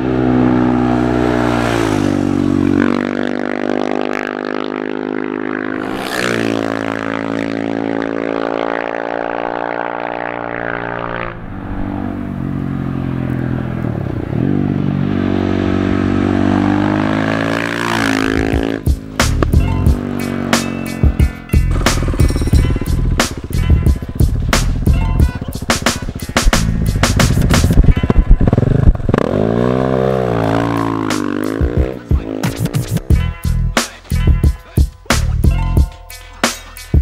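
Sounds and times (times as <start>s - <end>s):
motorcycle engine accelerating: 0.0s - 33.2s.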